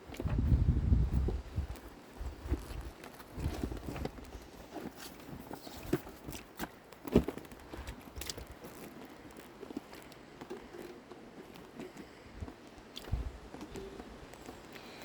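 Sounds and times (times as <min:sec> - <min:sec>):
faint rustling: 0:00.0 - 0:15.0.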